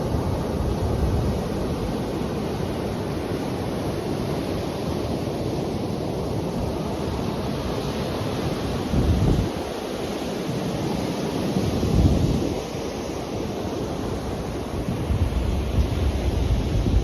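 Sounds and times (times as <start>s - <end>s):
waves washing: 0.0s - 17.0s
wind rumbling on microphone: 0.0s - 17.0s.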